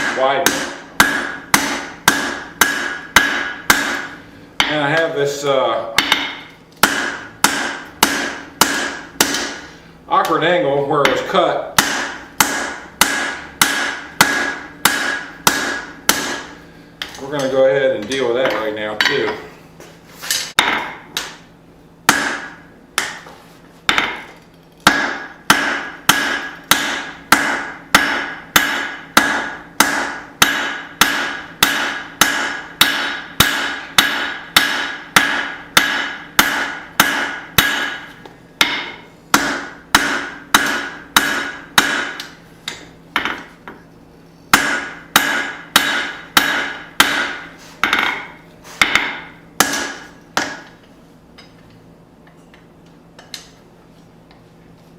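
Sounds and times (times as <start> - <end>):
hammer striking steel on anvil: 0.0 - 5.2, 5.9 - 10.4, 11.0 - 19.4, 20.3 - 21.4, 22.1 - 23.3, 23.9 - 43.5, 44.5 - 50.7.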